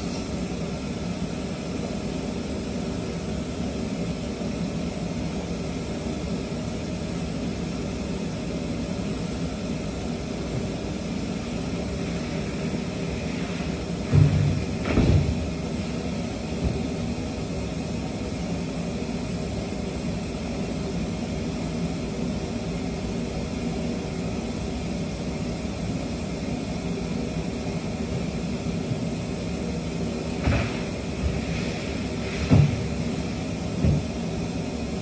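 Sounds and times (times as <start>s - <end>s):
industrial machinery drone: 0.0s - 35.0s.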